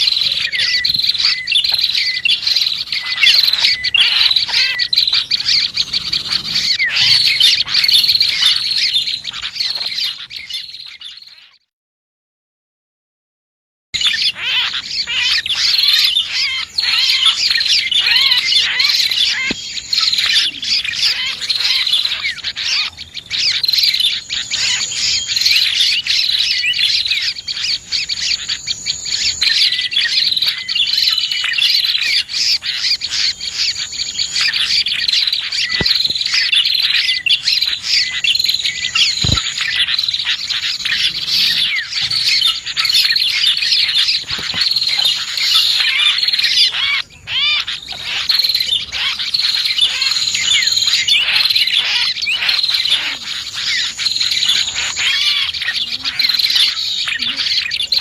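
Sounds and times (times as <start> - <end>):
small birds chirping: 0.0 - 11.7, 14.0 - 58.0.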